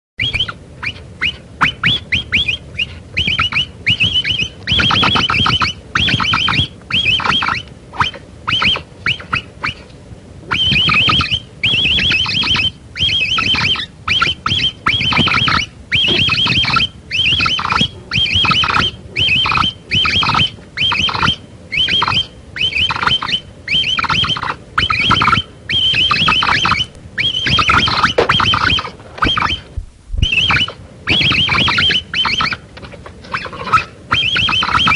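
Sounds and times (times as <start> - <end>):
capybara clicking calls: 0.2 - 9.9, 10.5 - 34.9.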